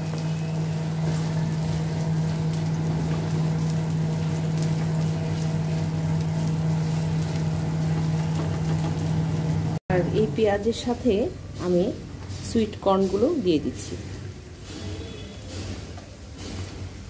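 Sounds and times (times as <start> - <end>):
low machine hum: 0.0 - 14.5
onions frying in oil: 0.0 - 17.0.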